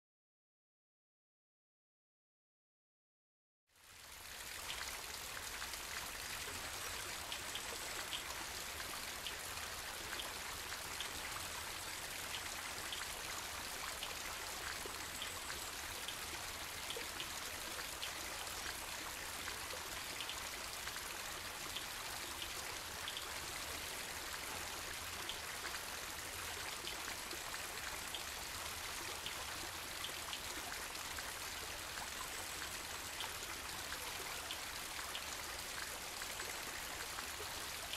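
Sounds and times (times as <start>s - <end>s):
water drips and splashes: 3.8s - 37.9s
water running and trickling: 3.8s - 37.9s.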